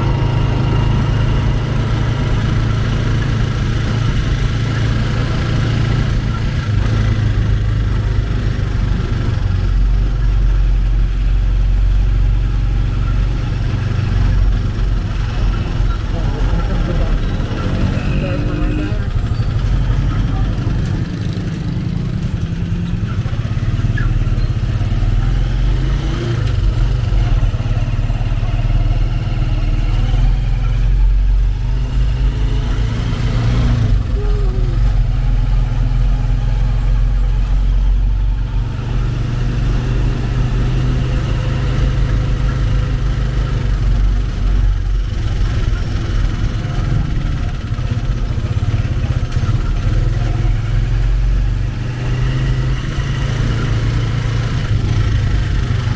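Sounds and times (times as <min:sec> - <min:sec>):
motorcycle engine rumbling: 0:00.0 - 0:55.9.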